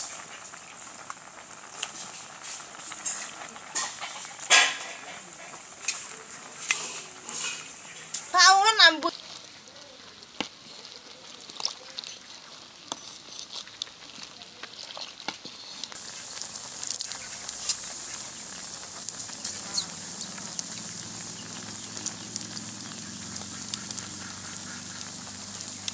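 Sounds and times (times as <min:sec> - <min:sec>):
curry boiling hard in pot: 0:00.0 - 0:25.9
wooden spatula stirring pot: 0:00.0 - 0:25.9.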